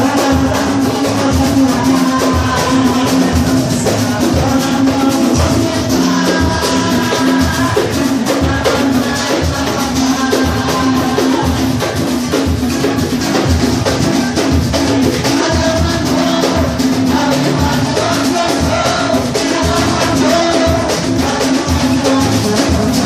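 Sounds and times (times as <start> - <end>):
samba percussion group: 0.0 - 23.0.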